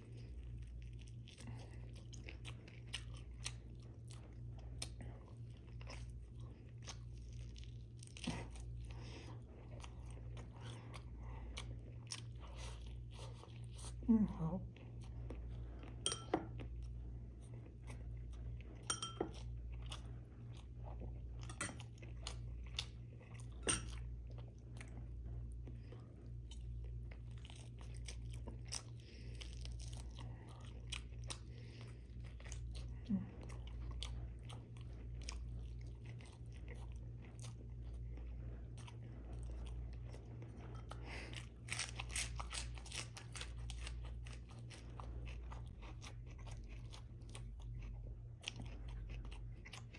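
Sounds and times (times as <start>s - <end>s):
low steady hum: 0.0s - 49.9s
person chewing food: 0.0s - 49.9s.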